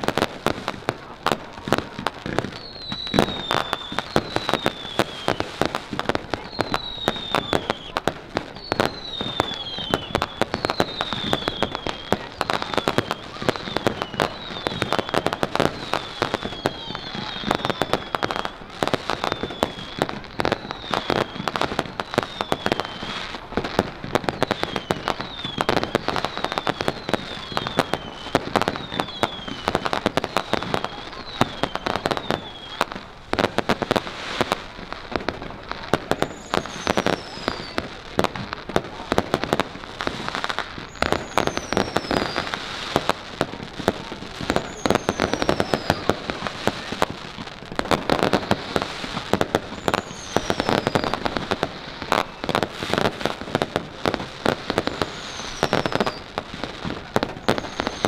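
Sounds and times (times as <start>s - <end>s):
fireworks bangs and crackles: 0.0s - 58.0s
fireworks falling whistles: 0.0s - 58.0s.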